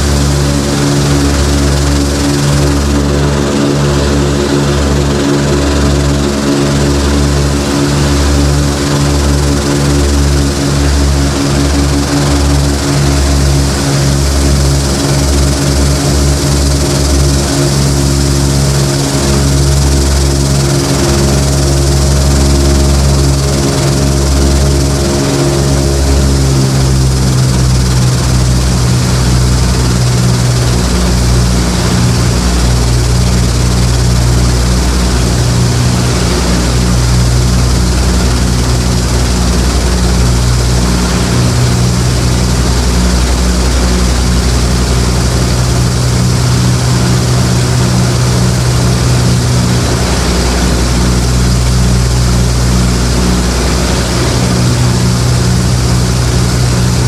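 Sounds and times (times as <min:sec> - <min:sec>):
radial aircraft engines droning: 0:00.0 - 0:57.0.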